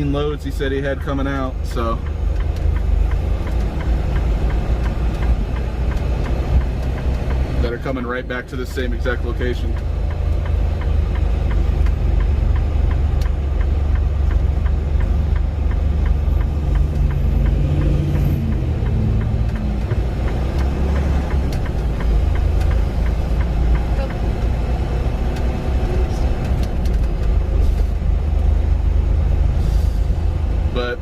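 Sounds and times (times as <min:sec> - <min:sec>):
truck engine and road rumble: 0:00.0 - 0:31.0.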